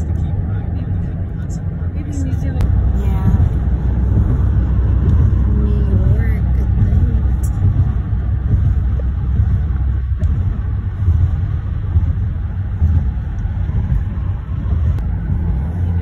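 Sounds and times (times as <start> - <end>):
road and engine rumble inside car: 0.0 - 16.0.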